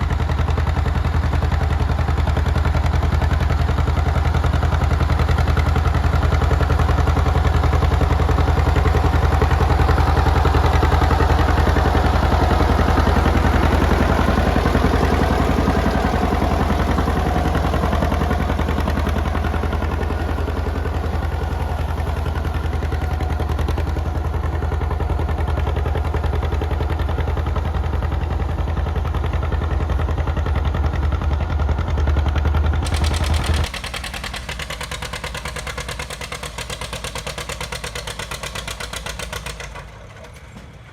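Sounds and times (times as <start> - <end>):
tractor engine exhaust popping: 0.0 - 40.5.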